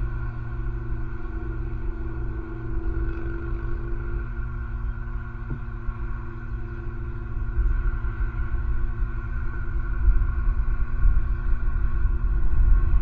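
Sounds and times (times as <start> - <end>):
low outdoor rumble: 0.0 - 13.0
multi-tone hum: 0.0 - 13.0.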